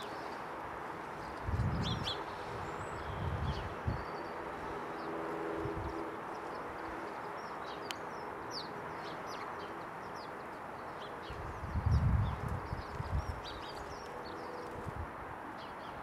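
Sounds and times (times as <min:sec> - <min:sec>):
sparrows chirping: 0:00.0 - 0:14.9, 0:15.5 - 0:16.0.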